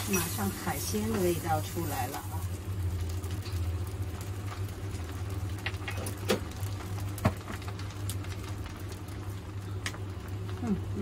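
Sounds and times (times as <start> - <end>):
egg yolk sizzling in a pan: 0.0 - 11.0
steady low hum: 0.0 - 11.0.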